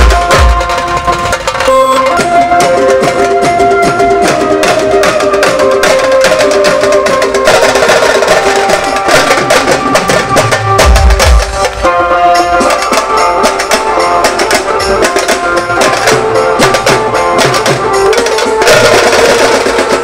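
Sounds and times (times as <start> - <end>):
loud music over horn loudspeakers: 0.0 - 20.0.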